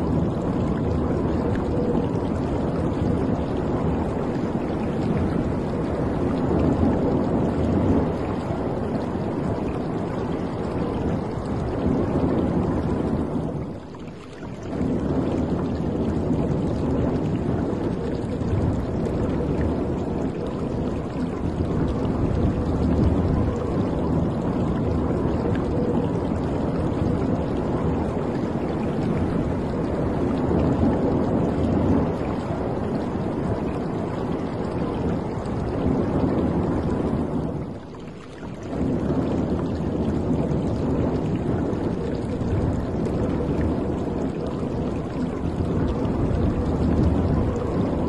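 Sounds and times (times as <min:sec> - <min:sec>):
faint steady hum: 0:00.0 - 0:48.0
water rushing against ship hull: 0:00.0 - 0:48.0.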